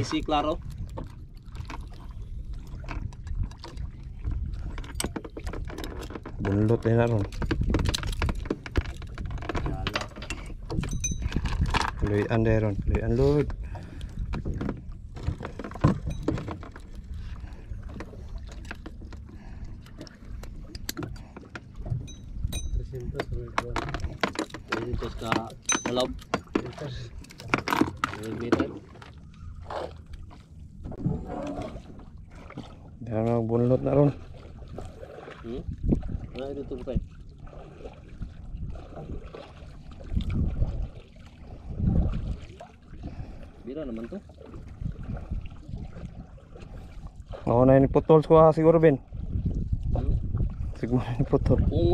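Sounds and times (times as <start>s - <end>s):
wind and water rushing: 0.0s - 51.9s.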